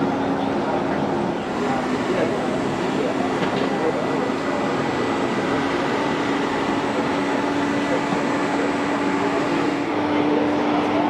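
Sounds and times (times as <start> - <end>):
machinery noise: 0.0 - 11.0
ventilation noise: 0.0 - 11.0.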